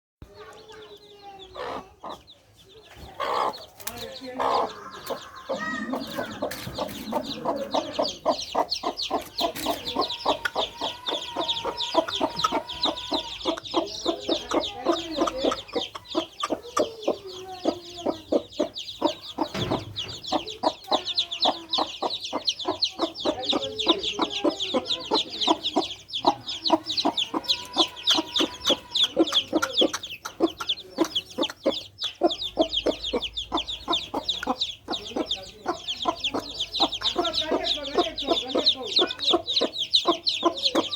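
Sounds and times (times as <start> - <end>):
chicks peeping: 0.2 - 40.9
hen clucking: 0.3 - 40.9.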